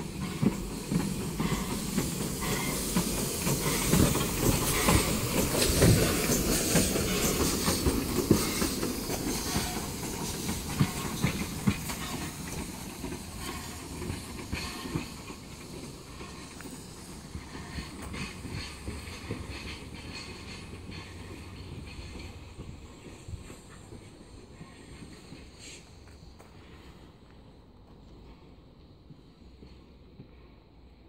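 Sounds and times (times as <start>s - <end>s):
steam hissing: 0.0s - 27.6s
steam locomotive passing: 0.0s - 31.0s.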